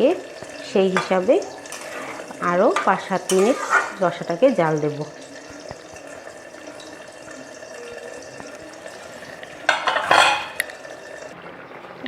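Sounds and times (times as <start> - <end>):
curry simmering in a pan: 0.0 - 12.0.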